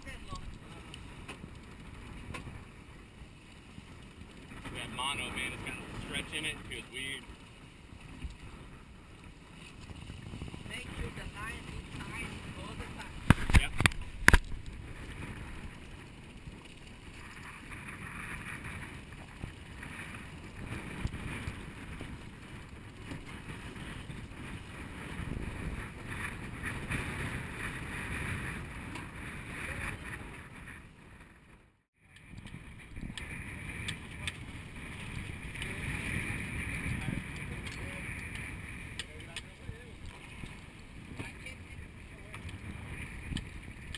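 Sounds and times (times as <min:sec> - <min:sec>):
boat through choppy water: 0:00.0 - 0:43.9
wind buffeting microphone: 0:00.0 - 0:43.9.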